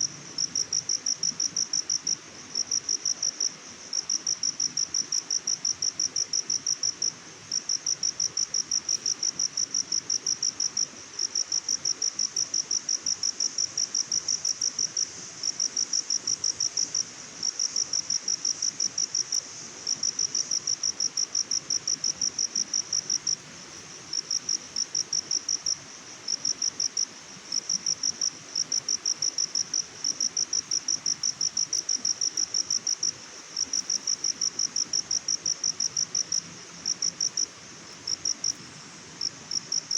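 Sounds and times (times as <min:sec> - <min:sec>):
cricket chirping trill: 0:00.0 - 0:39.9
faint steady hiss: 0:00.0 - 0:39.9.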